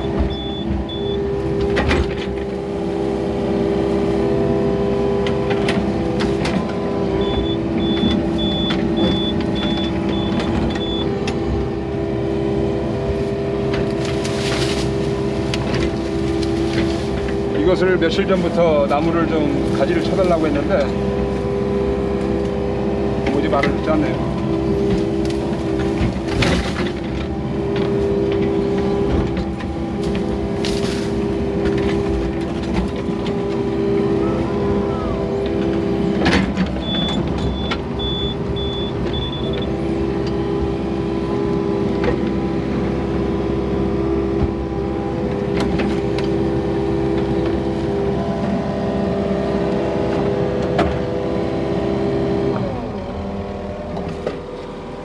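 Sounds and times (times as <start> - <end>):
excavator engine drone: 0.0 - 55.0
hydraulic whine: 0.0 - 55.0.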